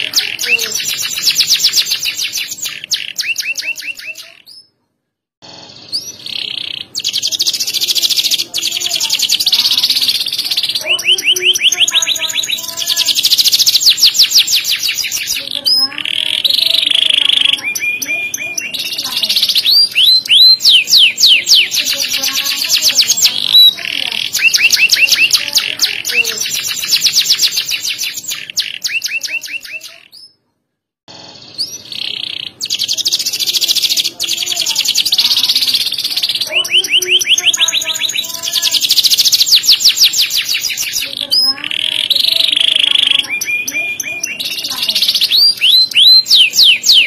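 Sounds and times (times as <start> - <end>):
canary singing trills: 0.0 - 4.8, 5.4 - 30.4, 31.1 - 47.0.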